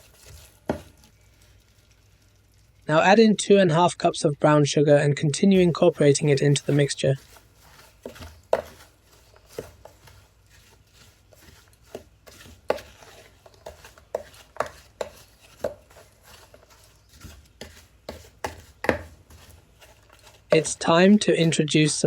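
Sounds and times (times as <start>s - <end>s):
spoon knocking and scraping a pot: 0.0s - 1.2s, 5.4s - 22.0s.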